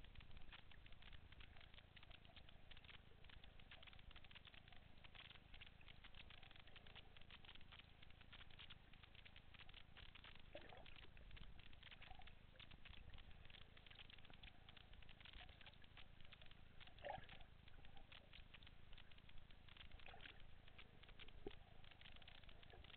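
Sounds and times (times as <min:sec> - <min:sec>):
underwater crackle of tiny clicks: 0:00.0 - 0:22.9.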